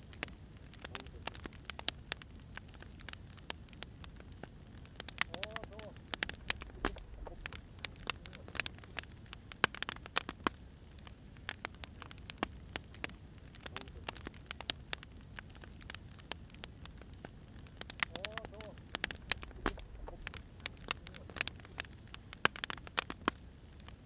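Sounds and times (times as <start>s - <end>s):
low hiss: 0.0s - 24.0s
wood fire crackling: 0.0s - 24.0s.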